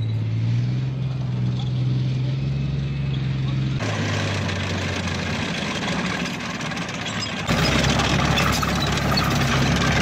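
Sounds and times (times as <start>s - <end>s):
tracked vehicle diesel engine: 0.0s - 10.0s.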